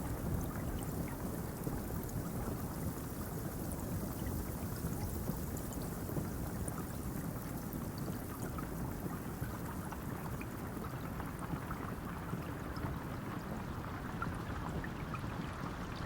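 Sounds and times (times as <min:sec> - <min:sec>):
faint raindrop ticks: 0:00.0 - 0:15.2.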